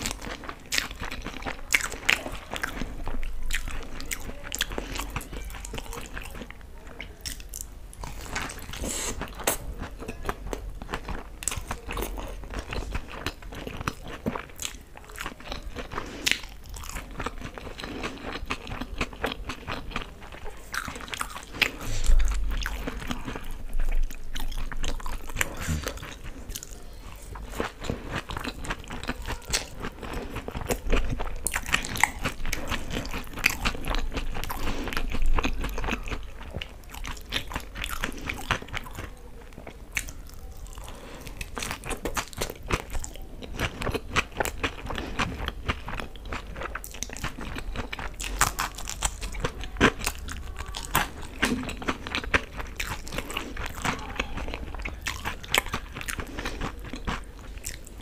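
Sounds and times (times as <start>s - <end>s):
crunchy biting and chewing: 0.0s - 58.0s.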